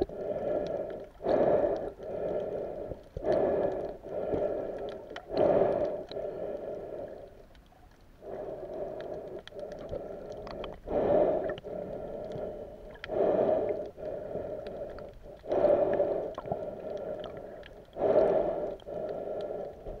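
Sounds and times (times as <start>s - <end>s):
breathing through a snorkel: 0.0s - 7.5s, 8.2s - 20.0s.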